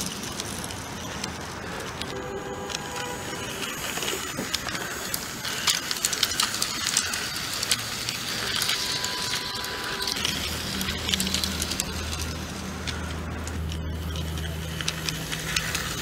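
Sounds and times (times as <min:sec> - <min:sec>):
toy train clicks: 0:00.0 - 0:16.0
toy train motor hiss: 0:00.0 - 0:16.0.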